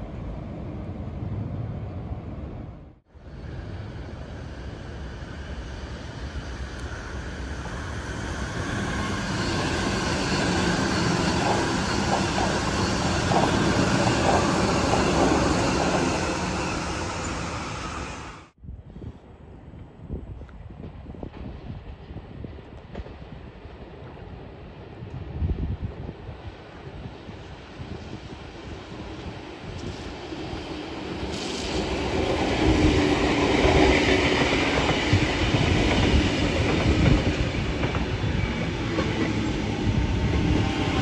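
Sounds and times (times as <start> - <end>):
electric train passing: 0.0 - 18.6, 26.3 - 41.0.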